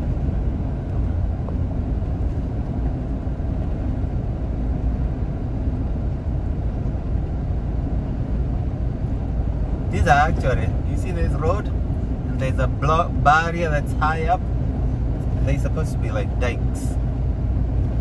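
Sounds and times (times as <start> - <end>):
car cabin road and engine rumble: 0.0 - 18.0.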